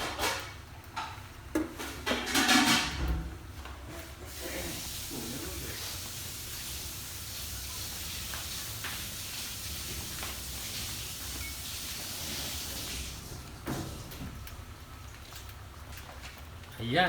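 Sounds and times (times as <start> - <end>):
cooking hiss on stove: 0.0 - 17.0.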